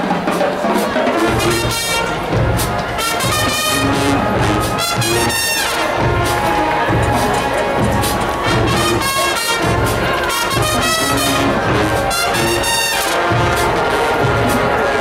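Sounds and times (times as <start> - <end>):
marching band playing: 0.0 - 15.0
trumpets and trombones: 0.0 - 15.0.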